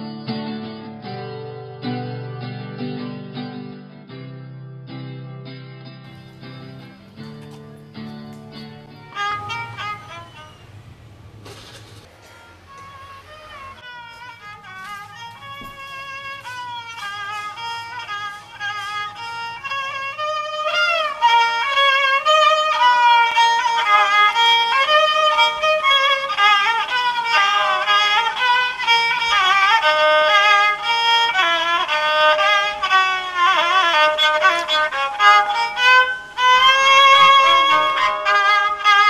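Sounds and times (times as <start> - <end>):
bowed fiddle melody: 5.8 - 39.0.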